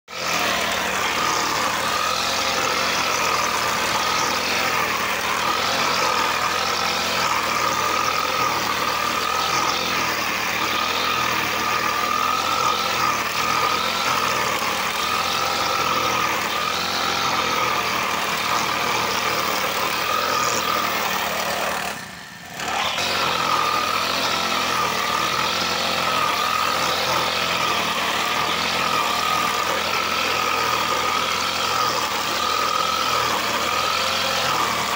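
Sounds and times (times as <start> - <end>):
brush cutter cutting grass: 0.0 - 34.9.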